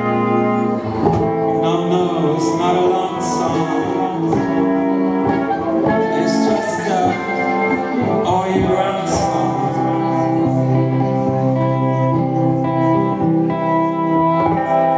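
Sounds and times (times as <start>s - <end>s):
electric guitar: 0.0s - 14.9s
person singing into microphone: 0.0s - 14.9s.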